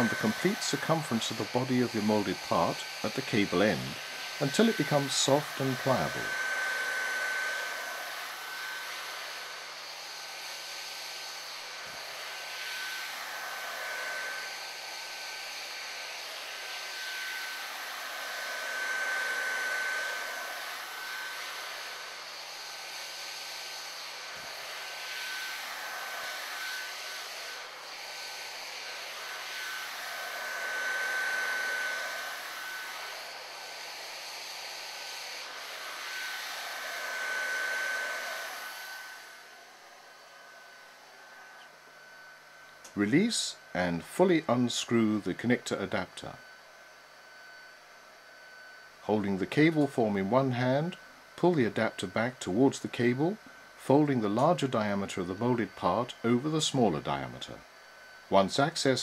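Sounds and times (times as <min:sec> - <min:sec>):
heat gun blowing air: 0:00.0 - 0:59.0.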